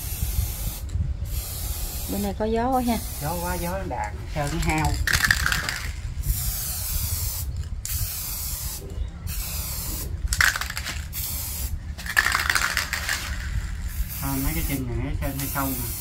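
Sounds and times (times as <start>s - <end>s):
spray paint can hissing: 0.0s - 16.0s
wind rumble on microphone: 0.0s - 16.0s.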